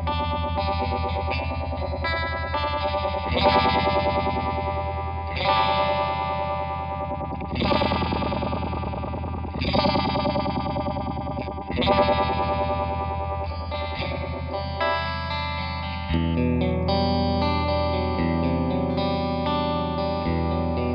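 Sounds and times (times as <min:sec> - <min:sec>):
electric guitar chords with warble: 0:00.0 - 0:20.9.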